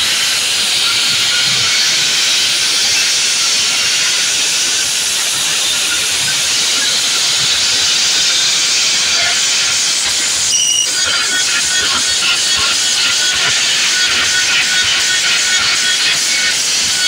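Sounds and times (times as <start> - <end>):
loud sound system roar: 0.0 - 17.0.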